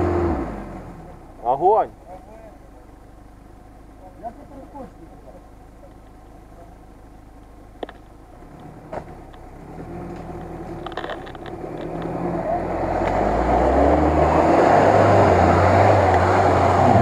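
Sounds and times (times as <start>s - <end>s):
suv engine revving: 0.0s - 1.9s, 2.8s - 17.0s.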